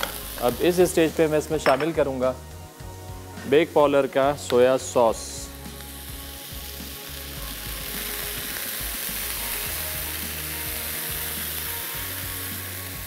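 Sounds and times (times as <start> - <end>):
chicken sizzling in a hot pan: 0.0 - 3.0, 3.6 - 13.0.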